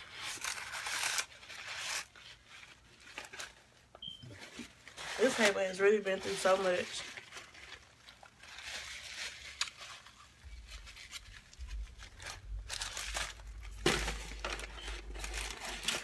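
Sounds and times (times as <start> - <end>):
food packaging crinkling: 0.0 - 16.0.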